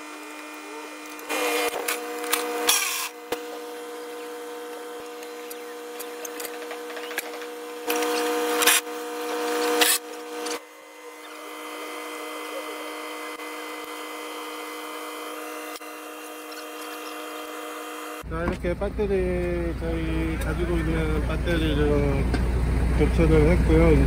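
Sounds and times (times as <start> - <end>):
machine hum: 0.0 - 24.0
motor running: 0.0 - 24.0.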